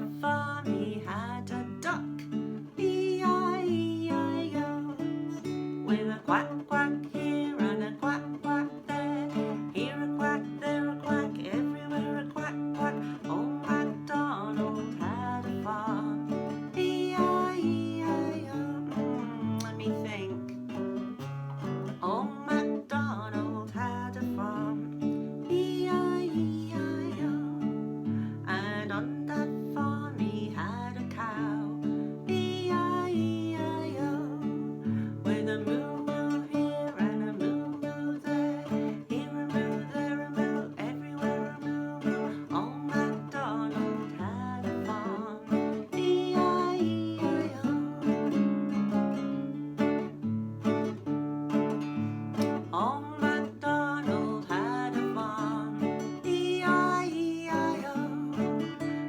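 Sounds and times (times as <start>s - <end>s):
person singing: 0.0s - 50.1s, 51.8s - 59.0s
acoustic guitar strumming: 0.0s - 59.0s.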